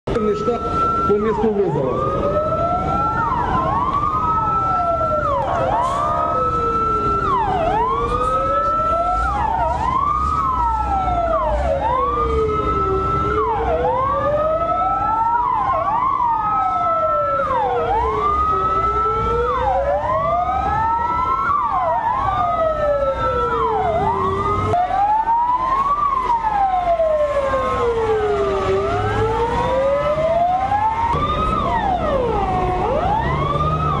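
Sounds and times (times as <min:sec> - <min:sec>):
siren climbing and dropping sharply: 0:00.1 - 0:34.0
siren wailing slowly: 0:00.1 - 0:34.0
truck engines rumbling: 0:00.1 - 0:34.0.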